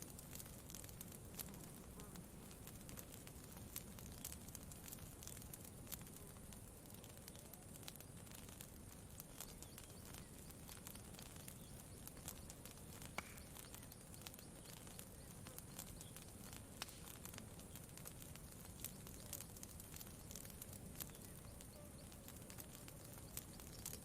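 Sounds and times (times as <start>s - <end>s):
campfire crackling: 0.0s - 24.0s
soft low background noise: 0.0s - 24.0s.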